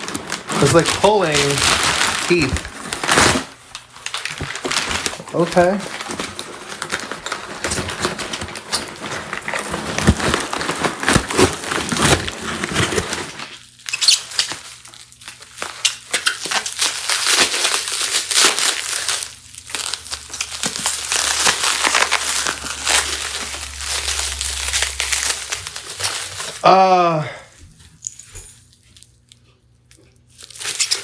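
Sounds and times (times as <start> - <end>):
cardboard box crinkling: 0.0 - 26.6, 30.3 - 31.0.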